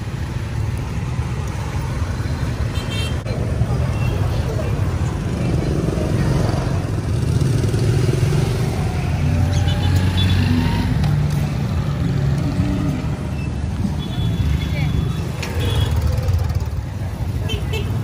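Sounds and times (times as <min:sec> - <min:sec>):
motorbike engines droning: 0:03.2 - 0:18.0.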